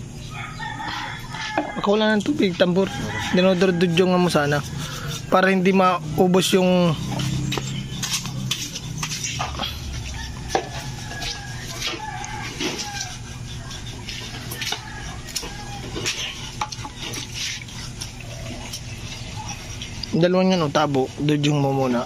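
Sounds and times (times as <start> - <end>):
knife scraping pig skin: 0.8 - 22.0.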